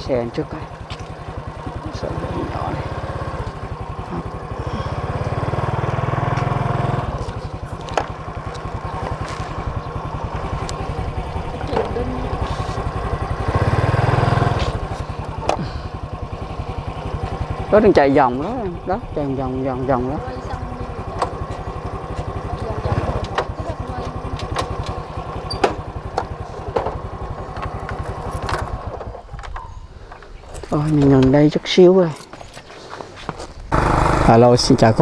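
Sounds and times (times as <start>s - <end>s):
small motorcycle engine idling: 0.0s - 31.8s, 33.6s - 35.0s.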